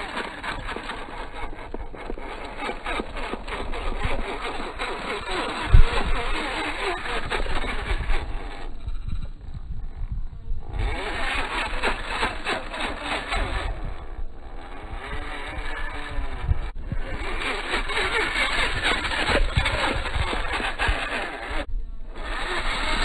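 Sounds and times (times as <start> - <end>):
electric motor whirring: 0.0 - 23.0.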